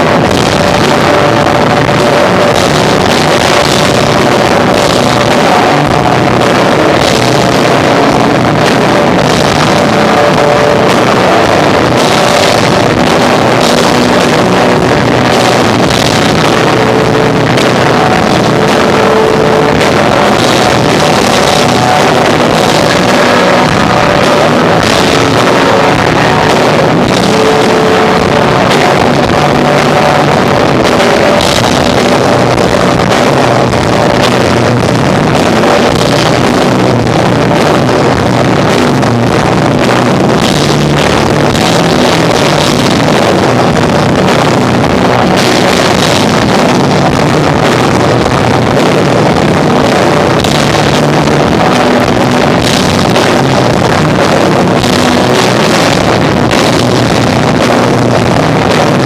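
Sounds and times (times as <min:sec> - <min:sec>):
distorted rock band playing: 0:00.0 - 0:59.0
drums beating steadily: 0:00.0 - 0:59.0.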